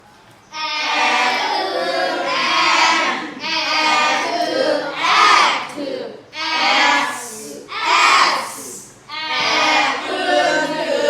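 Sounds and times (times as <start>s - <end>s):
children singing in unison: 0.6s - 11.0s.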